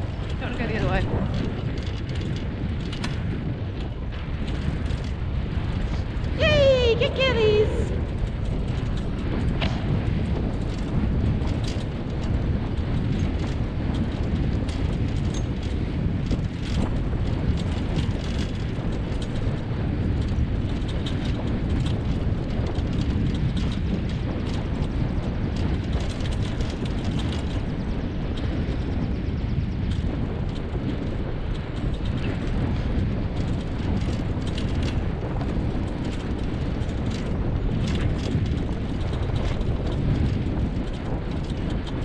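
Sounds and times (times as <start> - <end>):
cart rolling over dirt track: 0.0 - 42.0
small clicks and rattles: 0.0 - 42.0
wind on microphone: 0.0 - 42.0.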